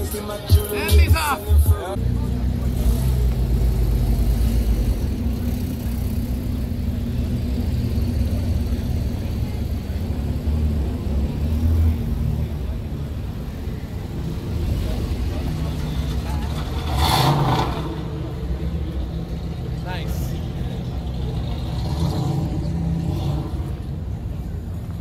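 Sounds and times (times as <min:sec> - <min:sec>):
car engine approaching: 0:00.0 - 0:25.0
car engines rumbling: 0:00.0 - 0:25.0.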